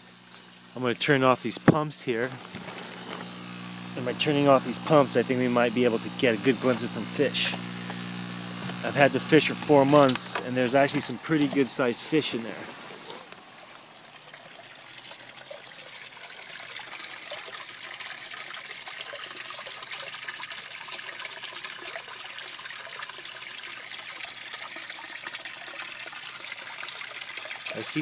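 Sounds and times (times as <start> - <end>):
water trickling and splashing: 1.4 - 28.0.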